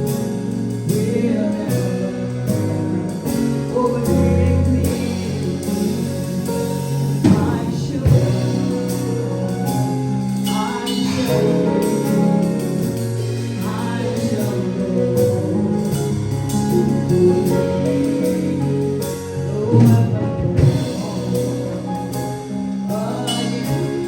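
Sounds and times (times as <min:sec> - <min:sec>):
gospel singing: 0:00.0 - 0:24.0
sustained instrumental chords: 0:00.0 - 0:24.0.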